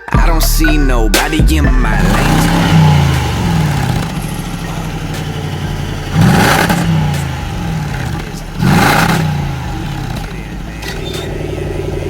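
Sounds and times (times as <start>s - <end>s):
car engine idling and revving: 0.2s - 12.0s.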